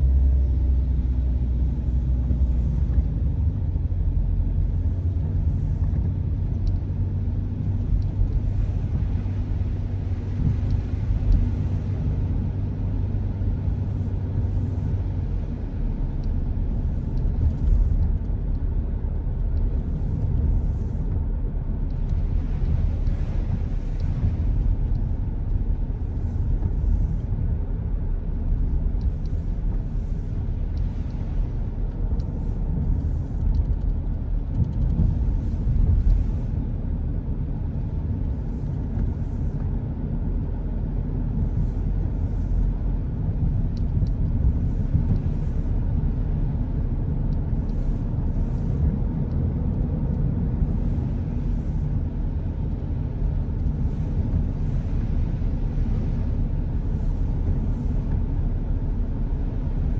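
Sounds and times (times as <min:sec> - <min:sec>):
road and engine noise inside car: 0:00.0 - 0:59.9.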